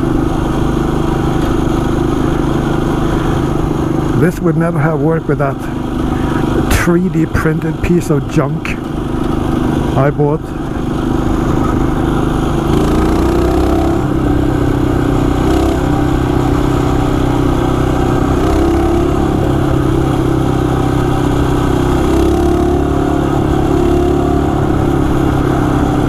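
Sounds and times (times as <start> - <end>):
mini bike engine running: 0.0 - 26.0.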